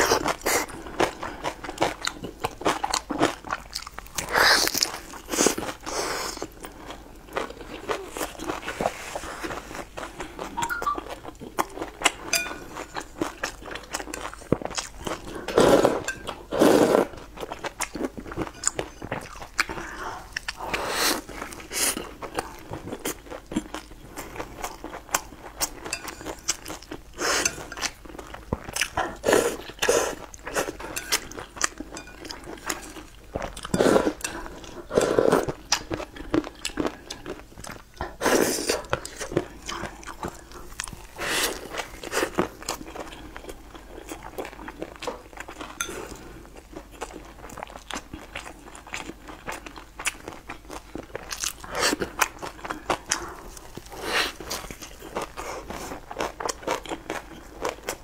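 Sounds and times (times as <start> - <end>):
chewing and crunchy bites: 0.0 - 58.0.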